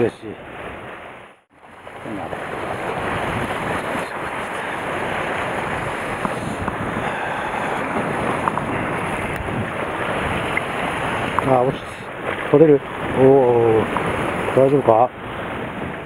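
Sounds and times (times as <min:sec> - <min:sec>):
surf splashing over rocks: 0:00.0 - 0:16.0
wind on microphone: 0:00.0 - 0:16.0.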